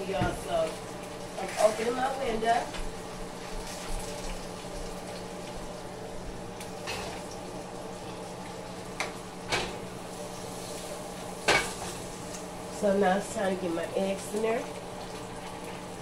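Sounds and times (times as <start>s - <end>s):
gas stove hum and hiss: 0.0s - 16.0s.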